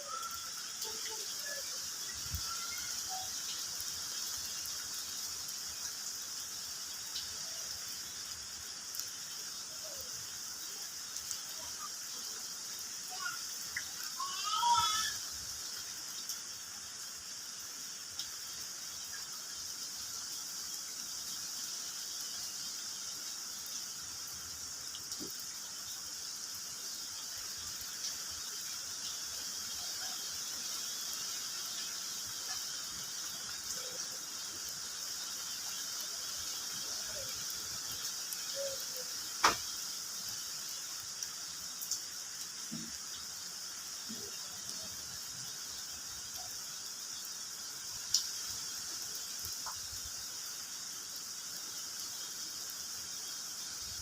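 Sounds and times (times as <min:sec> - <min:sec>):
faint chirps: 0:00.0 - 0:54.0
high-pitched outdoor hiss: 0:00.0 - 0:54.0.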